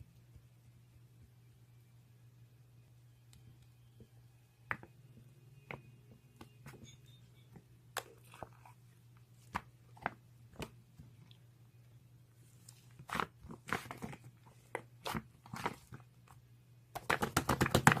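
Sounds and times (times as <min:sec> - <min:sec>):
faint low hum: 0:00.0 - 0:17.4.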